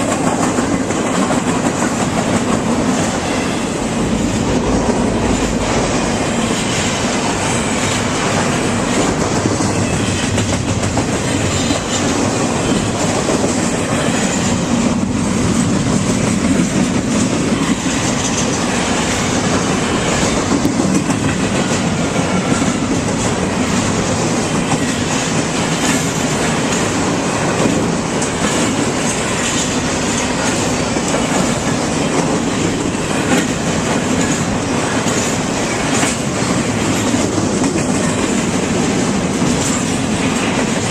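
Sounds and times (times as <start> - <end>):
train wheels on rails: 0.0 - 40.9.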